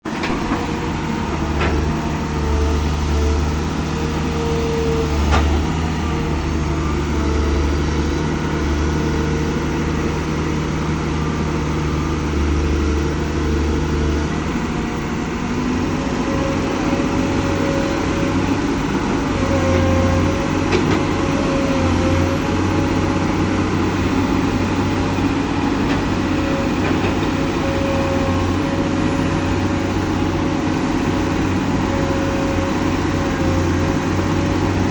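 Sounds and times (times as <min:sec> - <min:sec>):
excavator diesel engine drone: 0:00.0 - 0:34.9.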